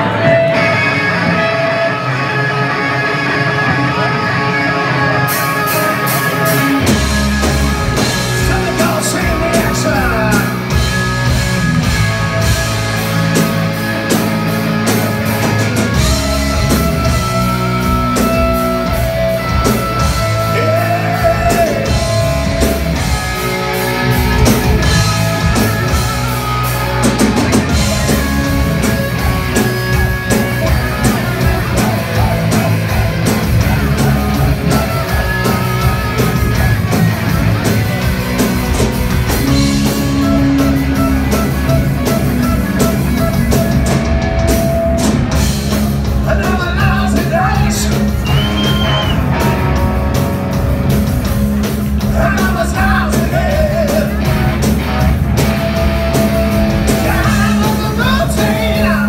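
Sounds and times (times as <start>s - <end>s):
hard rock band playing: 0.0s - 59.0s.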